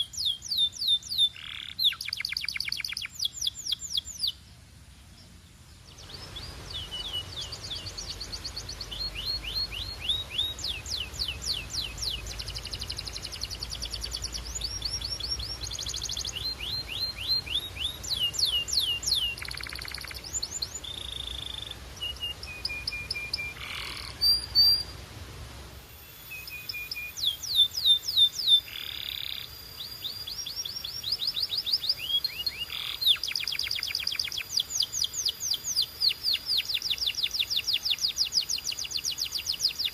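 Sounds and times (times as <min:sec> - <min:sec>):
canary singing trills: 0:00.0 - 0:04.4, 0:05.2 - 0:24.9, 0:26.1 - 0:39.9.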